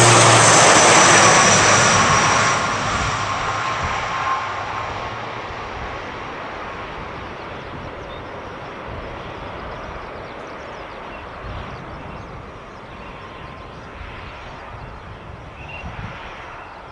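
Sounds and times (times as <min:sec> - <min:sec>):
turboprop engines droning: 0:00.0 - 0:16.9.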